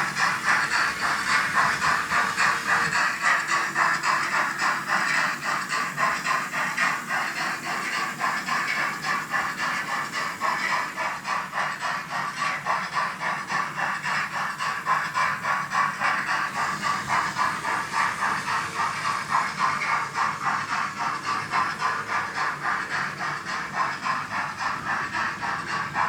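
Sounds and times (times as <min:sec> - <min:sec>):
model train steam chuffing: 0:00.0 - 0:26.0.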